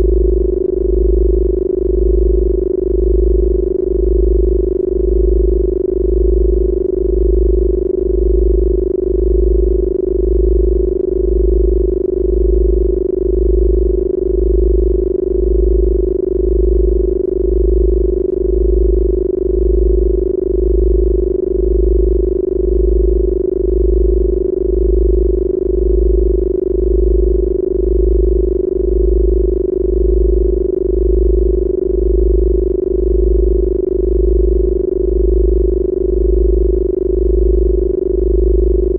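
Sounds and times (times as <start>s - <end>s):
pulsing deep bass tone: 0.0s - 38.9s
steady mid-pitched hum: 0.0s - 38.9s.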